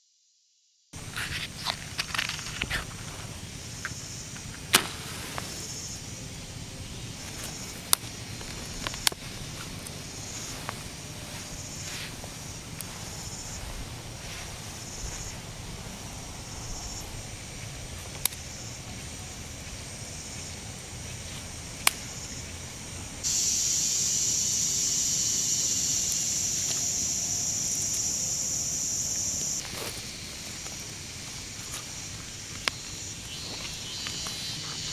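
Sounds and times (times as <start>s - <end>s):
loud steady hiss: 1.0s - 34.9s.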